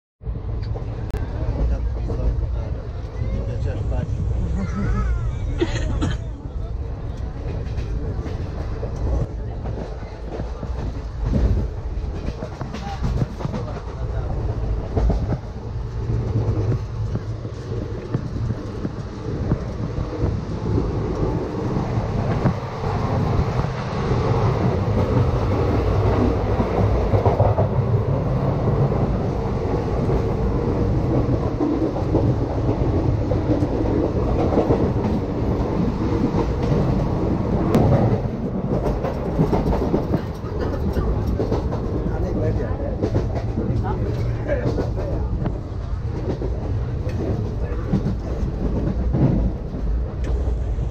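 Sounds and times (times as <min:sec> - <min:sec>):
train carriage rumbling: 0:00.2 - 0:50.9
wheels clattering on track: 0:07.1 - 0:50.5.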